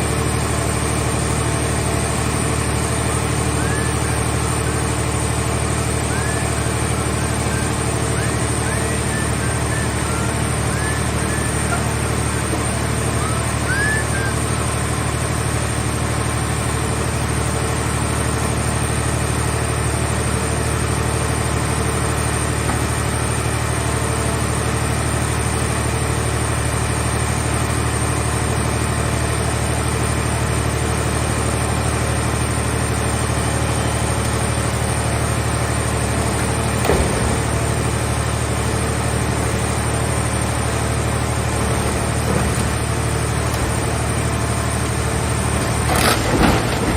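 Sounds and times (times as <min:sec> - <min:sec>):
baler power unit droning: 0:00.0 - 0:46.9.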